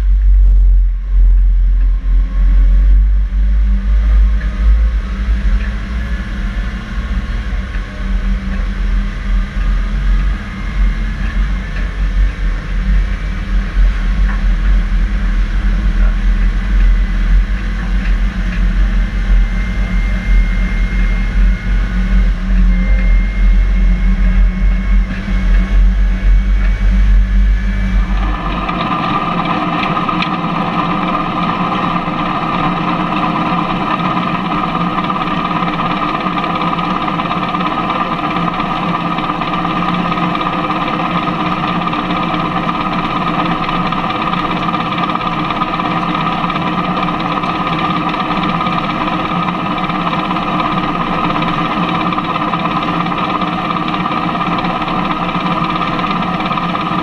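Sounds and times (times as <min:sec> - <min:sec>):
combine harvester whine: 0:00.0 - 0:57.0
trailer low rumble: 0:00.0 - 0:57.0.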